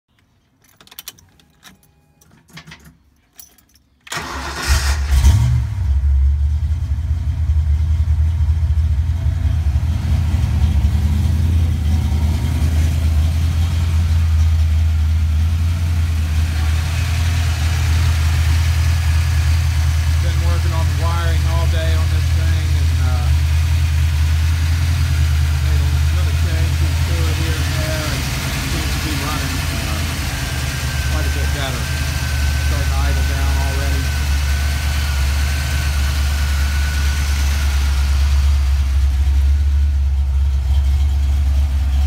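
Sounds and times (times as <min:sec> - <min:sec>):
car engine starting and idling: 0:00.1 - 0:42.0.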